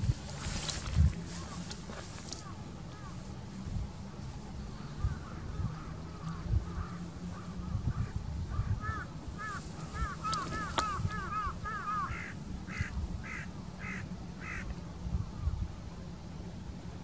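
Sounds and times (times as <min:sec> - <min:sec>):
birds calling: 0:00.0 - 0:15.6
low steady rumble: 0:00.0 - 0:17.0.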